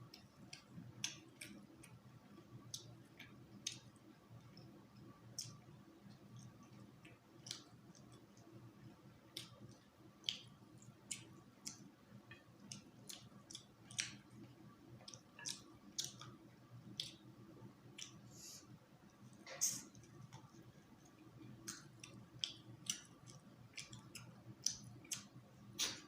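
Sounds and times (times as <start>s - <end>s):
soft chewing: 0.0s - 26.0s
wet mouth clicks and smacks: 2.7s - 5.7s, 6.3s - 17.3s, 17.9s - 18.2s, 19.3s - 26.0s.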